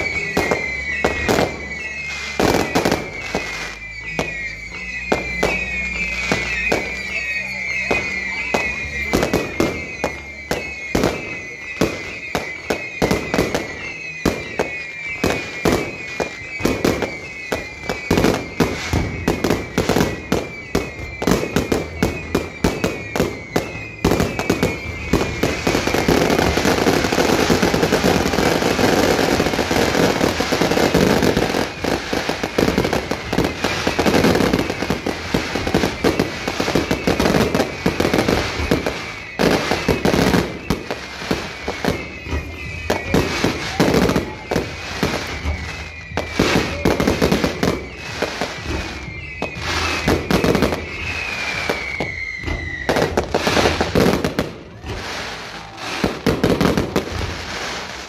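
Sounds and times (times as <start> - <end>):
firework falling whistle: 0.0 - 58.0
fireworks bangs and crackling: 0.0 - 58.0.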